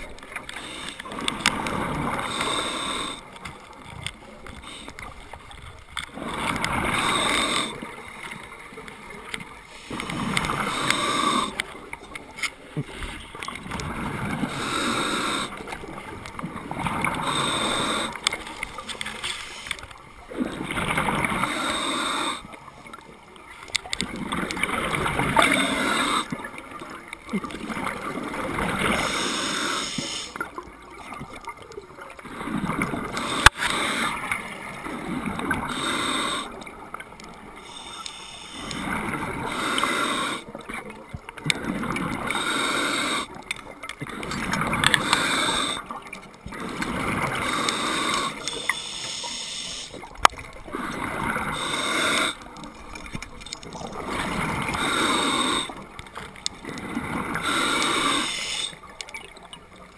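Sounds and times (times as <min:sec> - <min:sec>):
underwater regulator bubbling: 0:00.0 - 0:08.0, 0:08.8 - 0:22.6, 0:23.7 - 0:59.9.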